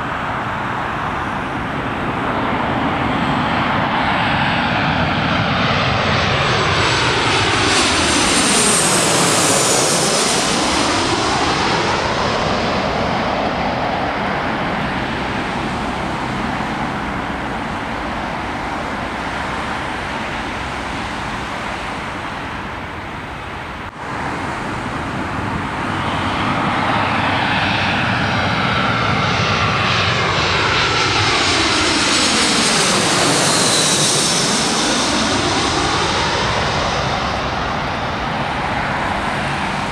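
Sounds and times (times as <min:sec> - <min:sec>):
jet airliner passing overhead: 0:00.0 - 0:39.9.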